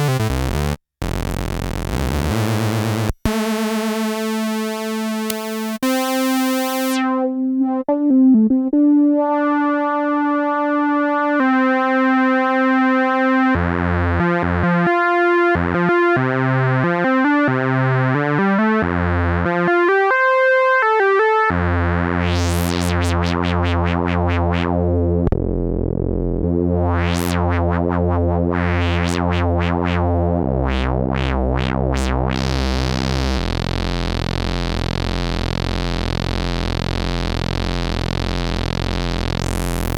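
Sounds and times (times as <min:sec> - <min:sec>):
analog synthesizer notes: 0:00.0 - 0:39.9.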